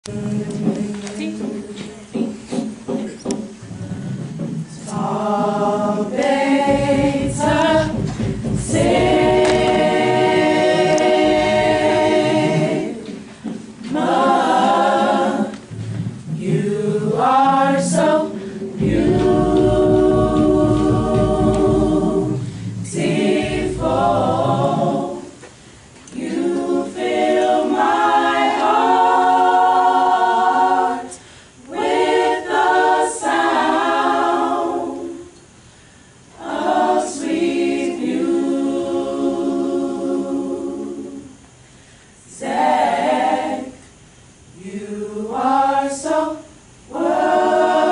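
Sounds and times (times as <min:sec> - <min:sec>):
group singing a cappella: 0:00.0 - 0:02.8, 0:03.6 - 0:47.9.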